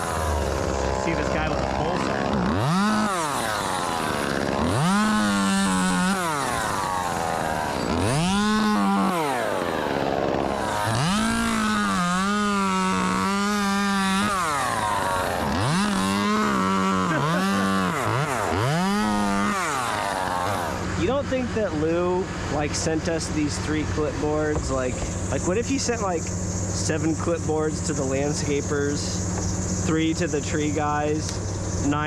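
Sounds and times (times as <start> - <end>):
chainsaw revving and cutting: 0.0 - 30.9.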